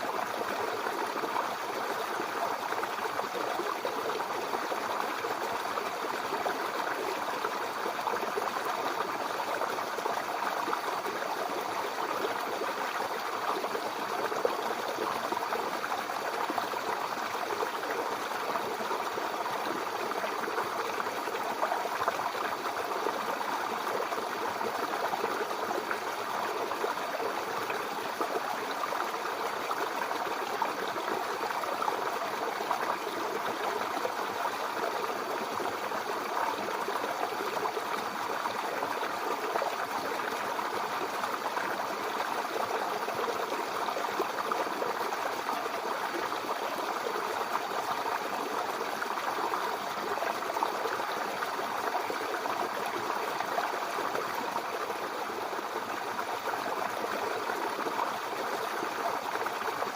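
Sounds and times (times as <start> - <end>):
brook babbling over stones: 0.0 - 59.9.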